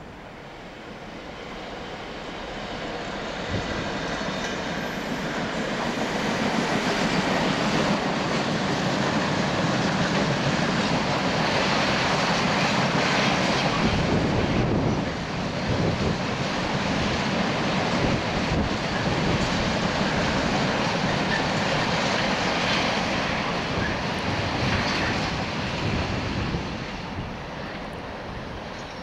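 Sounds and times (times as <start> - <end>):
diesel locomotive engine: 0.0 - 29.0.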